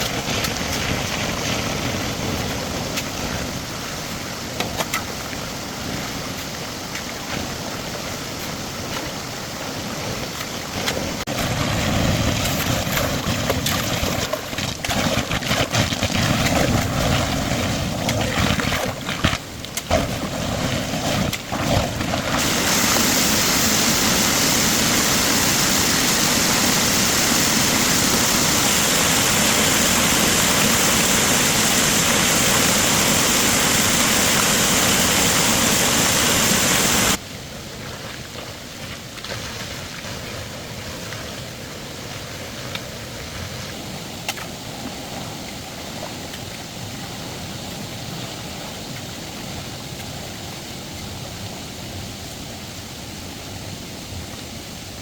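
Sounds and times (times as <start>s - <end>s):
water spraying: 0.0s - 52.1s.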